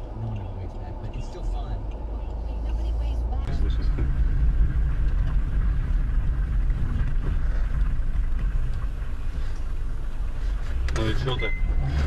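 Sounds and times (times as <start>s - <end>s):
car engine rumble: 0.0s - 12.0s
tyres on wet road: 0.0s - 12.0s.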